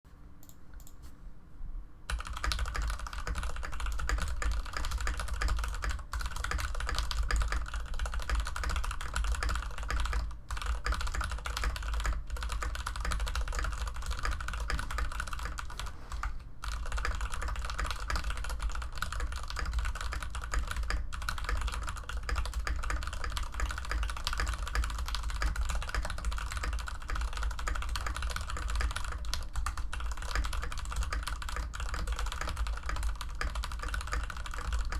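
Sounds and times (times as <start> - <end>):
fast mechanical keyboard typing: 2.1 - 34.9.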